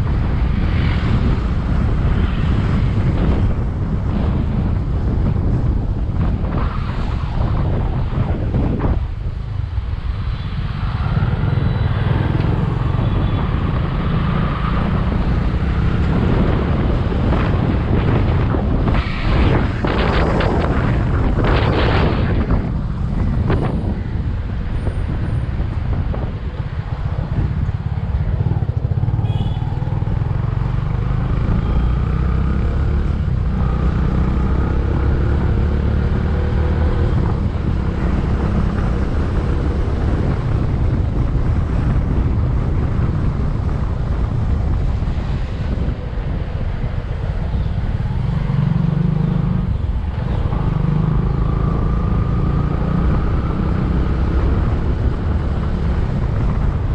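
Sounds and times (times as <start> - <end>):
wind rushing on microphone: 0.0 - 56.9.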